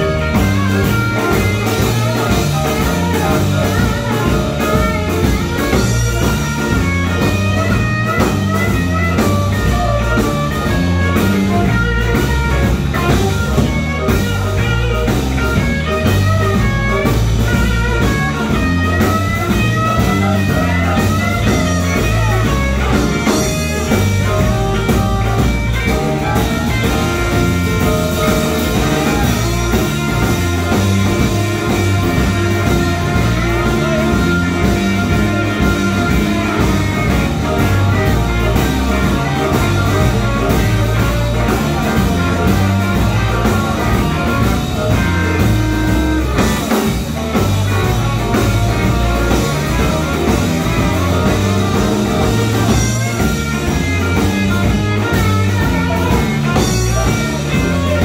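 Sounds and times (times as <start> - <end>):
bass guitar: 0.0 - 58.0
drums: 0.0 - 58.0
electric guitar bending notes: 0.0 - 58.0
keyboard: 0.0 - 58.0.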